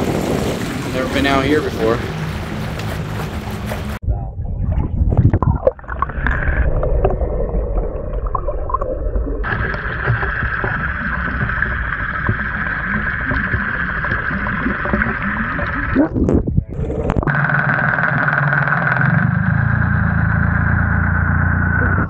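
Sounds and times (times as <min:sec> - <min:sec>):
outboard motor whine underwater: 0:00.0 - 0:04.0, 0:05.6 - 0:16.0, 0:16.7 - 0:22.0
muffled rushing water: 0:00.0 - 0:18.0.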